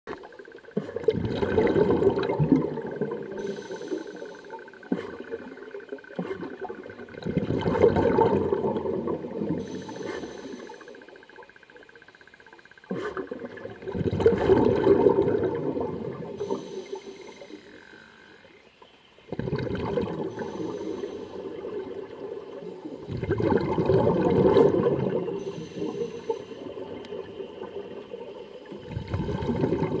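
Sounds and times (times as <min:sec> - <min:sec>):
gurgling exhaled bubbles underwater: 0:00.1 - 0:12.1, 0:12.8 - 0:17.8, 0:19.2 - 0:30.0.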